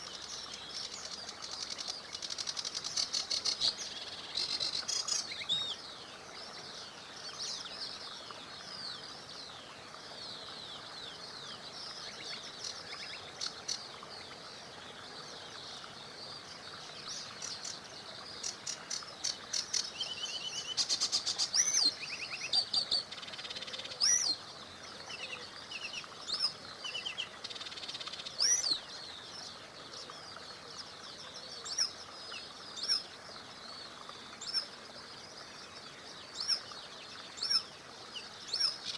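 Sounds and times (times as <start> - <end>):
small river rushing: 0.0 - 38.9
songbirds chirping and singing: 0.0 - 38.9.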